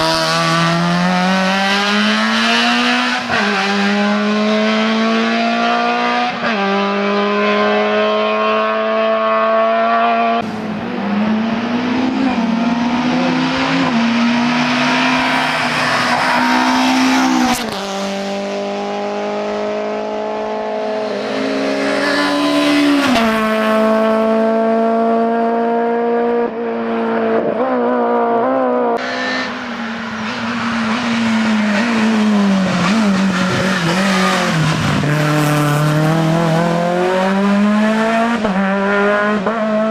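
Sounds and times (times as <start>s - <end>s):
race car engines at hard throttle: 0.0s - 39.9s.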